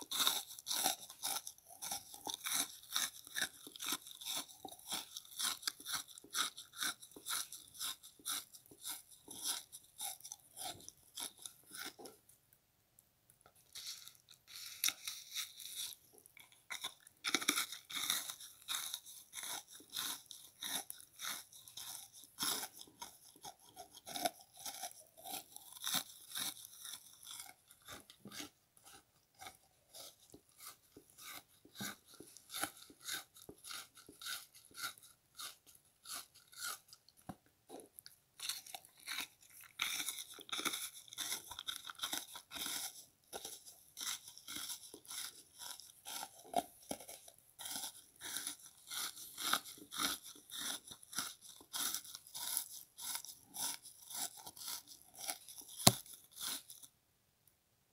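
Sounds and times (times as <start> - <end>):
frozen sponge crunching when chewed: 0.0 - 12.4, 13.5 - 57.0.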